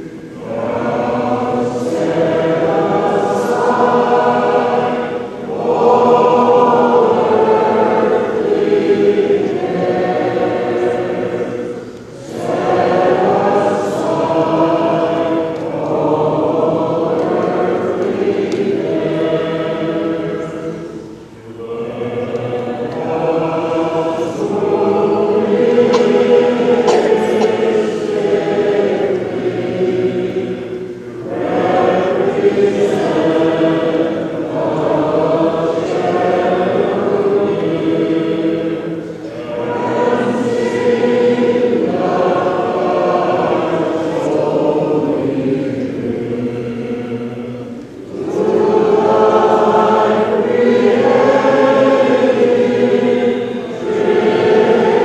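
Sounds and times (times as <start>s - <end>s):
choir singing chant unaccompanied: 0.0s - 55.0s.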